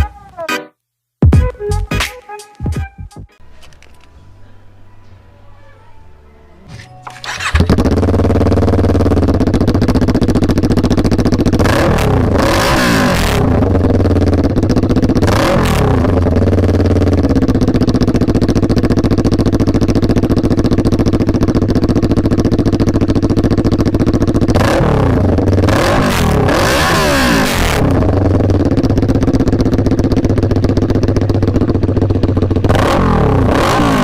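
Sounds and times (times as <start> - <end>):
motorcycle engine idling: 6.7 - 34.0.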